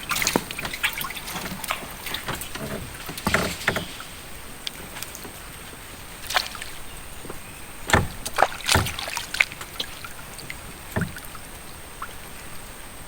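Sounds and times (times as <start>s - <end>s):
knocks on small boat: 0.0s - 11.5s
light water splashes: 0.0s - 13.0s.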